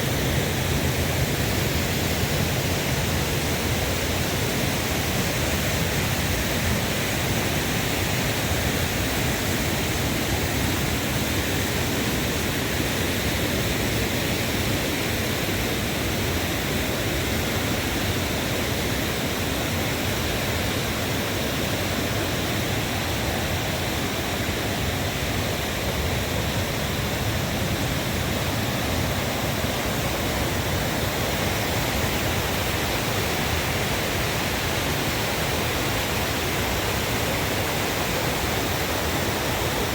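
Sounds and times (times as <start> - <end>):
river rushing over stones: 0.1 - 39.9.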